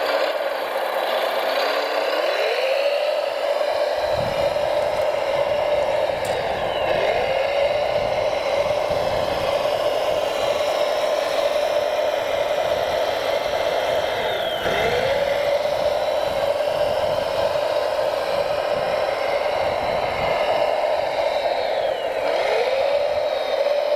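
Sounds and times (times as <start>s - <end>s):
electric motor whining: 1.8s - 23.9s.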